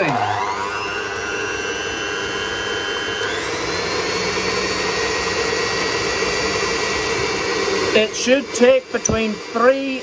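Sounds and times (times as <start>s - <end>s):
stand mixer motor whining: 0.0s - 10.0s.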